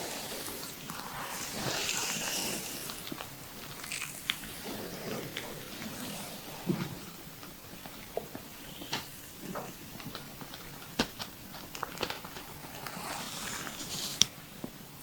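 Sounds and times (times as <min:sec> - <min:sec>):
oiled hands kneading skin: 0:00.0 - 0:14.4.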